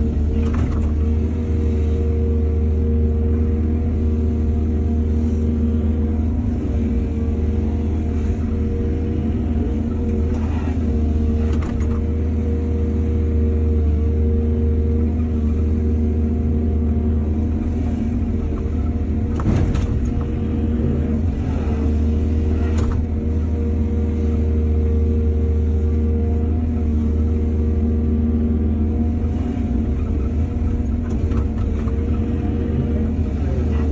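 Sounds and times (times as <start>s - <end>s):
excavator diesel engine: 0.0s - 33.9s.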